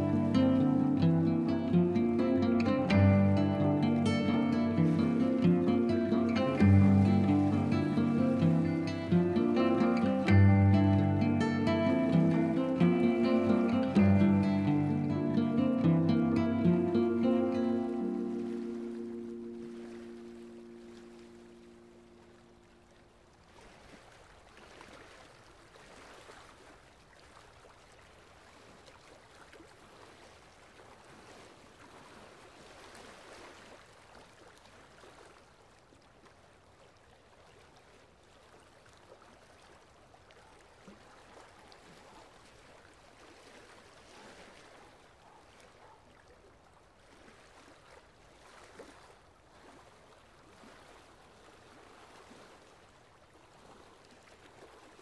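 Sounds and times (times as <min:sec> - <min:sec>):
faint water ambience: 0:00.0 - 0:55.0.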